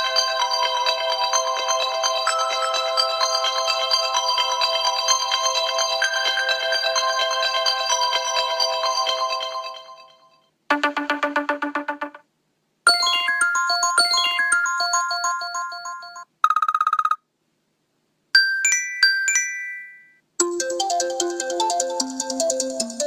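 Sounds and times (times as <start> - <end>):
phone ringtone melody: 0.0 - 12.1, 12.9 - 17.2, 18.4 - 23.0.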